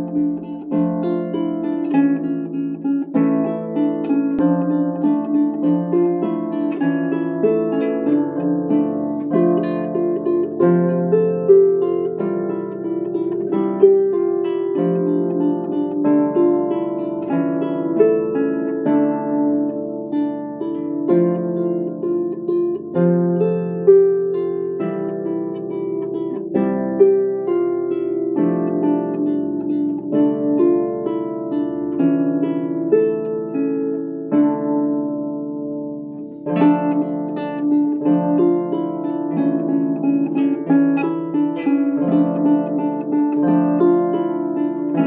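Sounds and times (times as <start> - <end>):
harp playing: 0.0 - 45.0.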